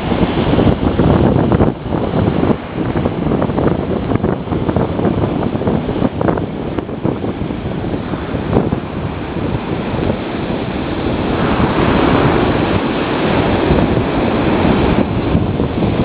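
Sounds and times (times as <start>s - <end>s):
surf washing on beach: 0.0s - 16.0s
wind buffeting microphone: 0.0s - 16.0s.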